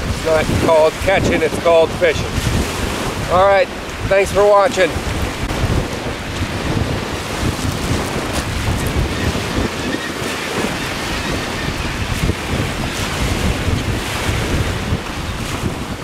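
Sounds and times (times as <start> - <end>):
waves washing on pebble beach: 0.0 - 16.0
wind buffeting microphone: 0.0 - 16.0.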